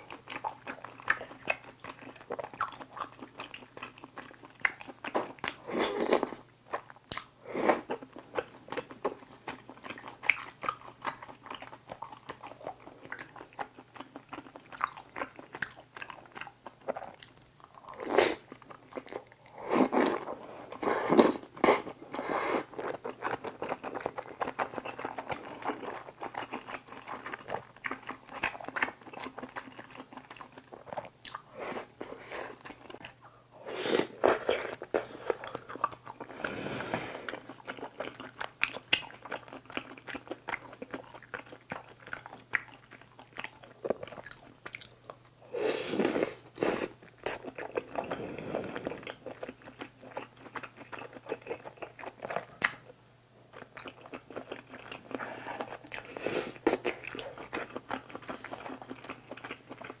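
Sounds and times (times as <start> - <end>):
person chewing: 0.0 - 60.0.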